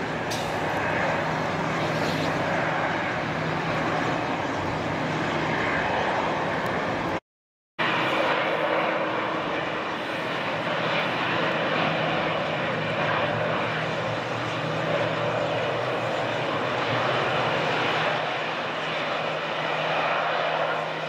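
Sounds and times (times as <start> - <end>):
jet engines idling: 0.0 - 7.2, 7.8 - 21.0.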